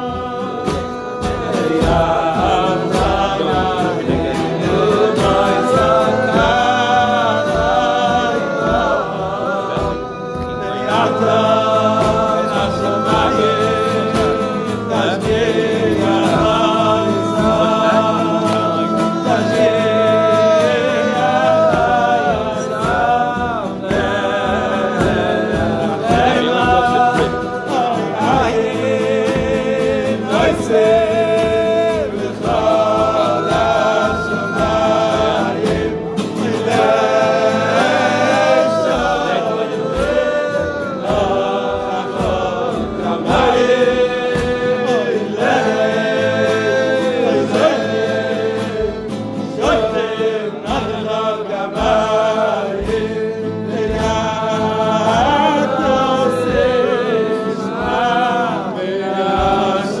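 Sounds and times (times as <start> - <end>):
men singing together: 0.0 - 60.0
steady low beat: 0.0 - 60.0.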